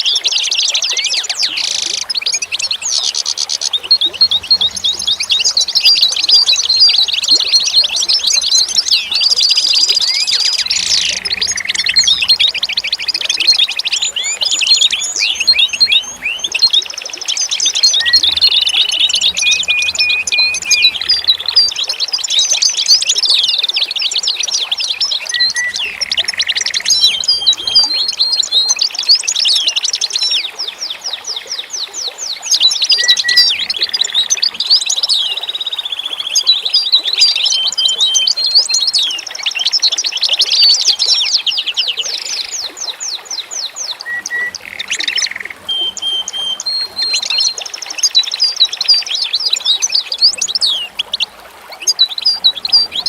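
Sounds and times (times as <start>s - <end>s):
songbirds singing in chorus: 0.0s - 53.0s.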